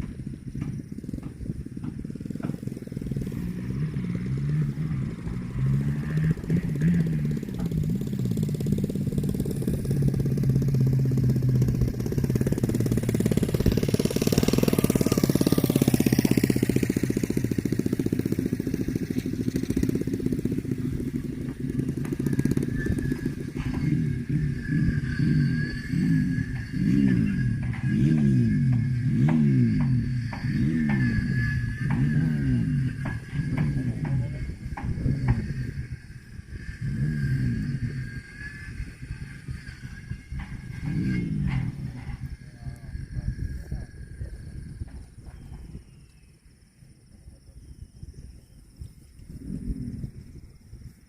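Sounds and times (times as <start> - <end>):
motor engine running: 0.0 - 51.0.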